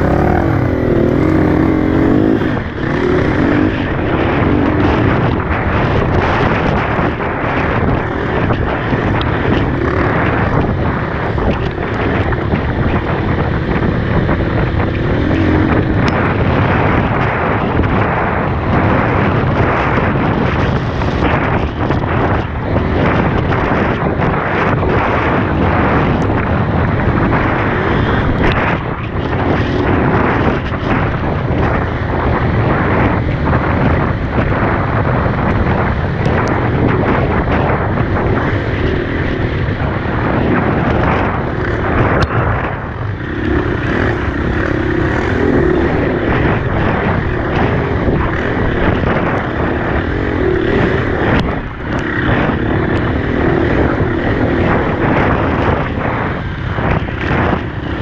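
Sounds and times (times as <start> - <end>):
dirt bike engine running: 0.0 - 58.0
wind rushing on microphone: 0.0 - 58.0.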